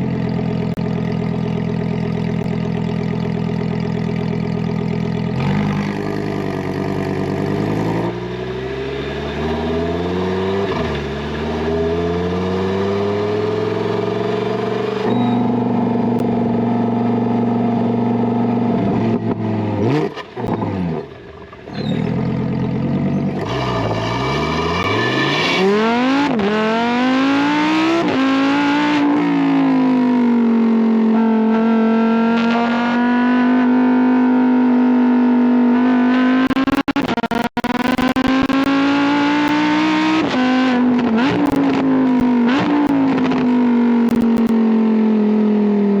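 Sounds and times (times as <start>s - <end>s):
sports car engine revving: 0.0s - 21.3s, 22.0s - 46.0s.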